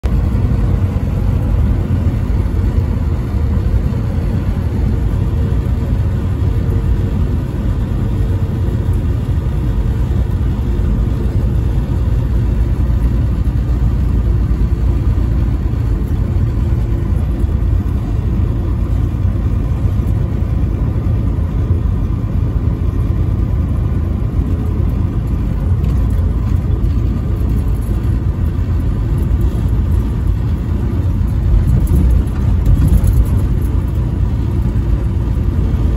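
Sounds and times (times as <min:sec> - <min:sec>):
vehicle road rumble: 0:00.0 - 0:35.9.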